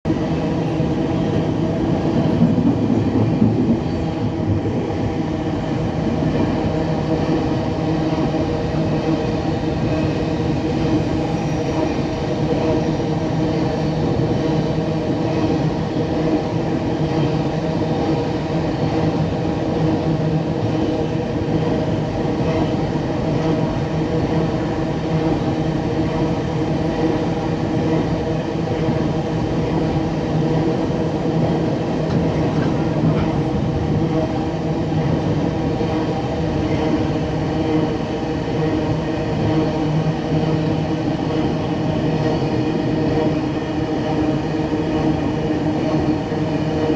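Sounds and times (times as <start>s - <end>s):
freight train locomotive drone: 0.0s - 46.9s.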